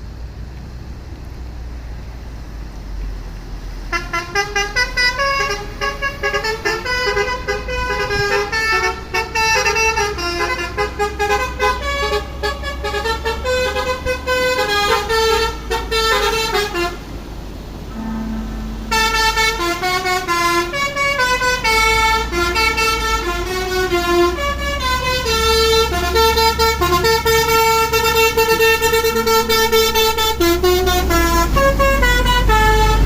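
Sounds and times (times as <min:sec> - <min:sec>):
steady low rumble: 0:00.0 - 0:33.0
musical air horn tune: 0:03.9 - 0:17.1, 0:17.8 - 0:33.0.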